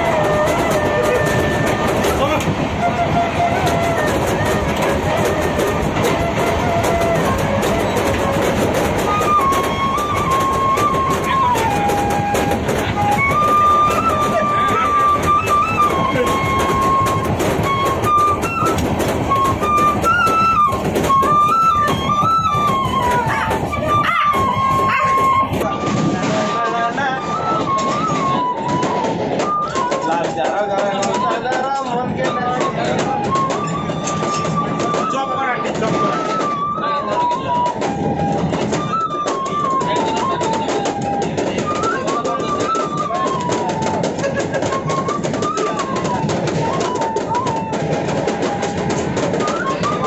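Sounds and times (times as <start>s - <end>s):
bamboo flute playing: 0.0s - 50.0s
fast percussive beat: 0.0s - 50.0s
train coach rumbling and rattling: 0.0s - 50.0s.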